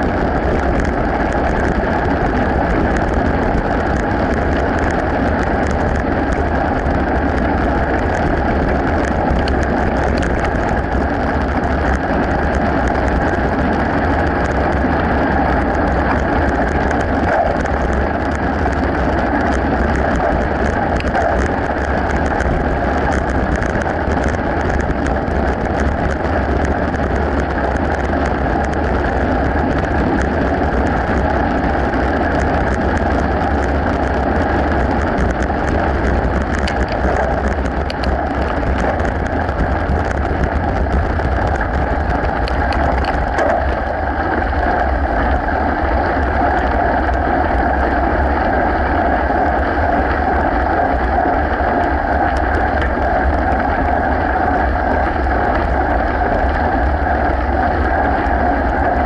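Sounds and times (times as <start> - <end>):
bike tyres crackling on gravel: 0.0 - 59.0
wind rush: 0.0 - 59.0.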